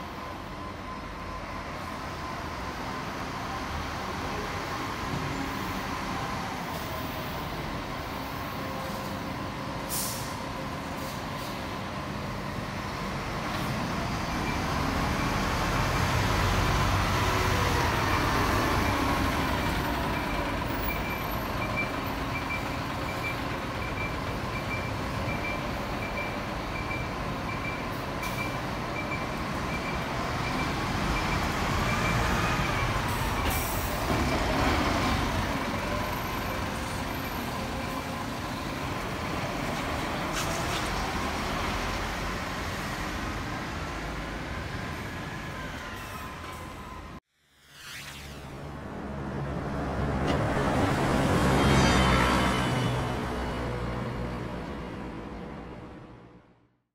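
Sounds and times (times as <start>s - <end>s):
diesel coaches accelerating: 0.0s - 47.2s.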